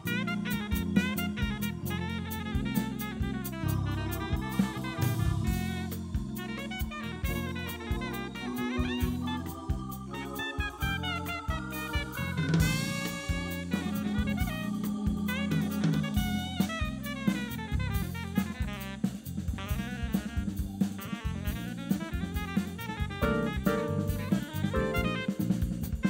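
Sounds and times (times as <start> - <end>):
drum kit groove: 0.0 - 26.0
electric bass: 0.0 - 26.0
electric keyboard: 0.0 - 26.0
jazz band playing: 0.0 - 26.0
saxophone: 0.0 - 26.0.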